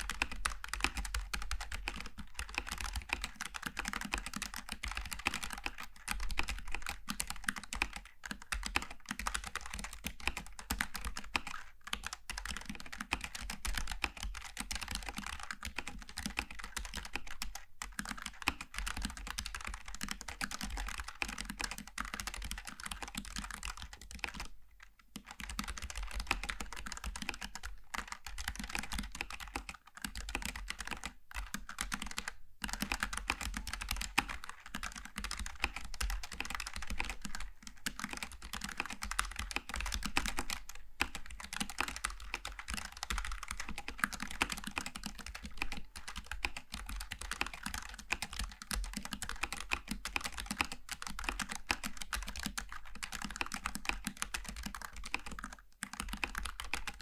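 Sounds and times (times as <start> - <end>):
fast keyboard typing: 0.0 - 57.0.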